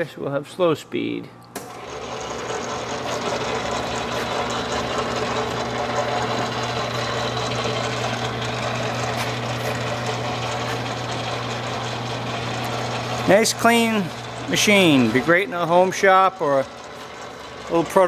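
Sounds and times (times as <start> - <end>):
milling machine whirring: 1.4 - 18.0.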